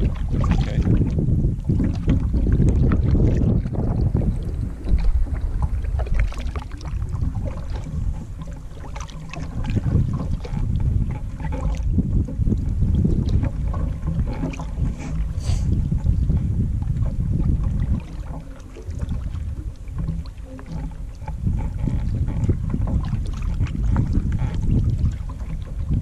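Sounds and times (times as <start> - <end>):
paddle splashes and drips: 0.0 - 26.0
wind rumbling on microphone: 0.0 - 26.0.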